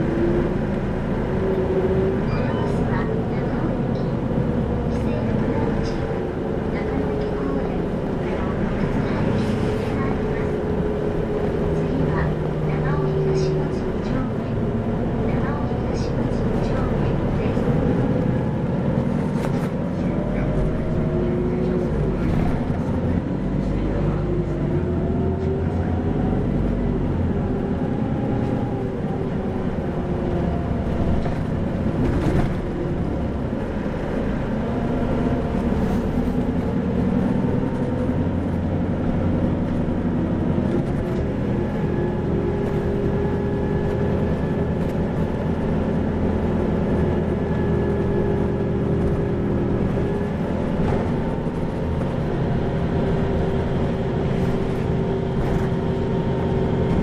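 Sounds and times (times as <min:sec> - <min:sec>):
bus engine humming: 0:00.0 - 0:57.0.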